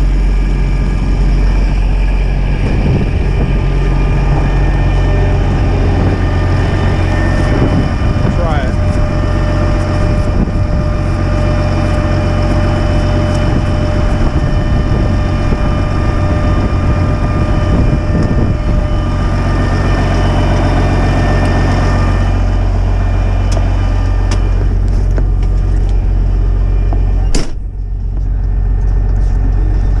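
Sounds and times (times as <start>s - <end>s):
pump whine: 0.0s - 30.0s
truck engine running: 0.0s - 30.0s.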